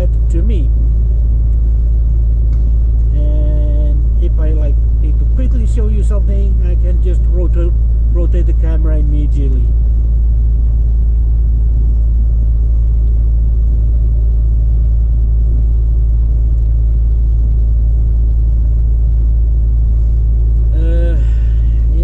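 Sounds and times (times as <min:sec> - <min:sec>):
truck engine rumble in cab: 0:00.0 - 0:22.0.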